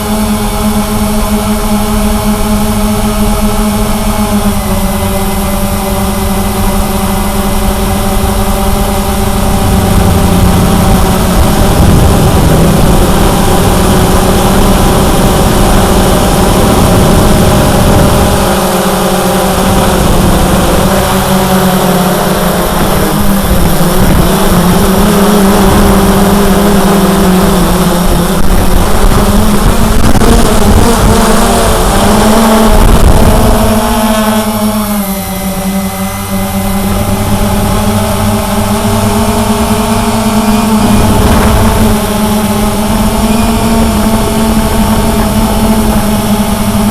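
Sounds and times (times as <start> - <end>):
constant rushing noise: 0.0 - 46.9
drone propellers humming: 0.0 - 46.9.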